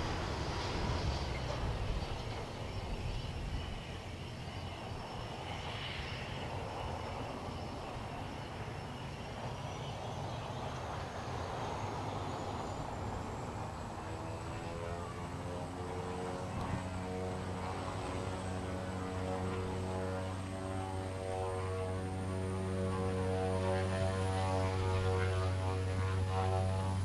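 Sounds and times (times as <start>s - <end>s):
high turbine whine: 0.0s - 27.0s
propeller and engine rumble: 0.0s - 27.0s.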